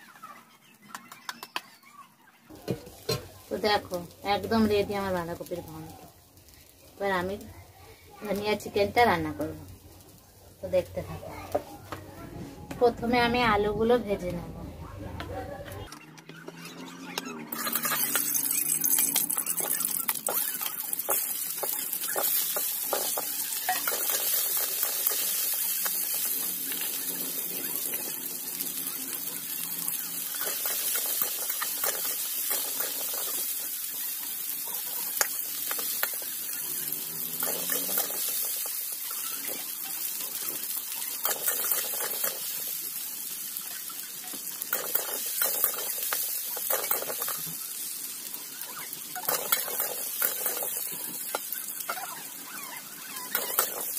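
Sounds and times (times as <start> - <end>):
potatoes sizzling in hot oil: 2.5 - 11.6, 17.4 - 53.9.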